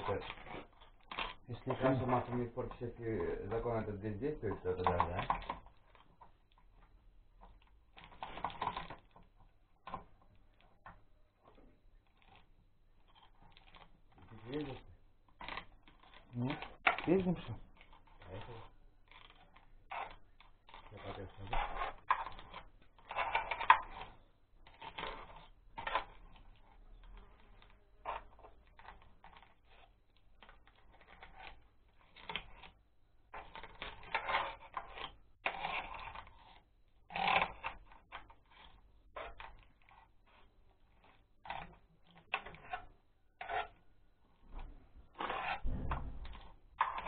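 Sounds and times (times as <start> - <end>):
metallic clinks and scrapes of tool: 0.0 - 47.0.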